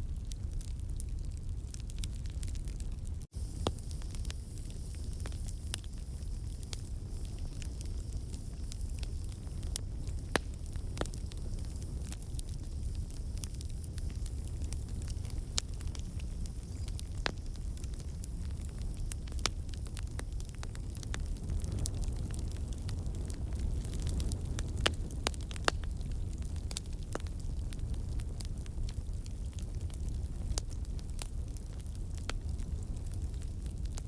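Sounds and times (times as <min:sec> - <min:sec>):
campfire flames rumbling: 0:00.0 - 0:34.0
fire crackling and popping: 0:00.0 - 0:34.0.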